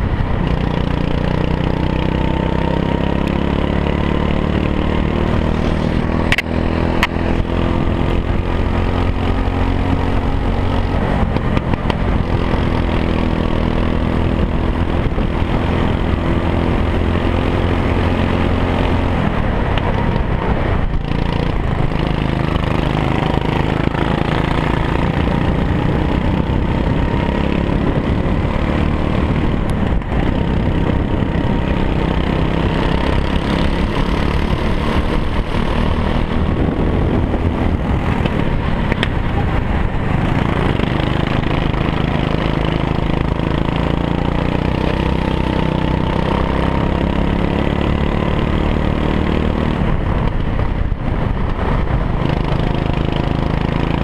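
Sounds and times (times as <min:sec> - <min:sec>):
go-kart engine racing: 0:00.0 - 0:54.0.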